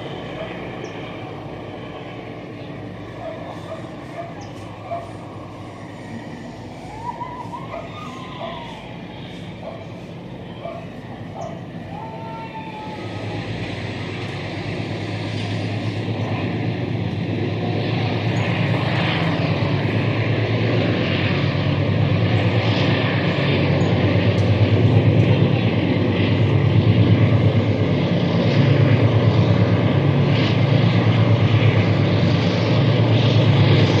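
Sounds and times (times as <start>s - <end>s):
diesel locomotive engine drone: 0.0s - 34.0s.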